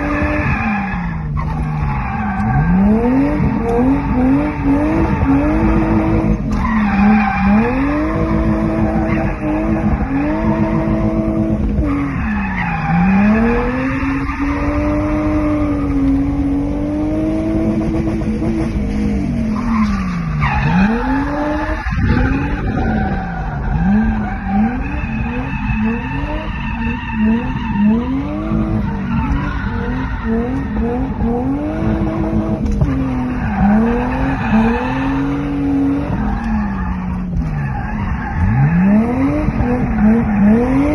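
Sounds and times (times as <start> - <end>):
tyre squeal and skidding: 0.0 - 17.2, 19.2 - 40.9
car engine revving hard: 0.0 - 36.7, 38.1 - 40.9.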